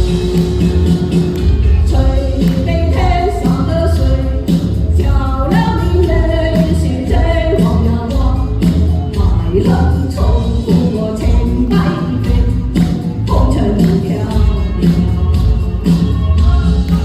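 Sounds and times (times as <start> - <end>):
person singing: 0.0 - 15.2
backing music with steady beat: 0.0 - 17.0.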